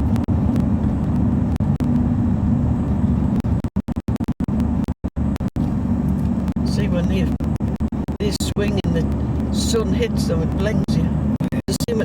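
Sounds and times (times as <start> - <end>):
diesel engine droning in cab: 0.0 - 12.0
road noise: 0.0 - 12.0.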